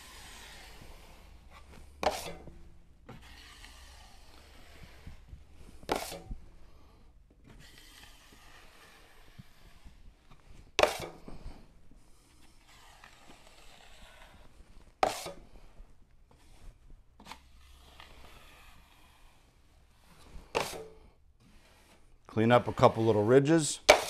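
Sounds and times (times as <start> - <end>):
taping knife scraping compound: 0.0 - 24.0.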